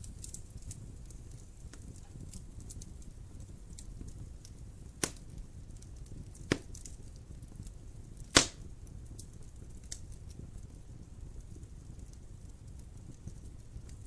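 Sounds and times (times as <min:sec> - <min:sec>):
fire rumbling: 0:00.0 - 0:14.0
sharp fire pops: 0:00.0 - 0:14.0
wood fire crackling: 0:00.0 - 0:14.0.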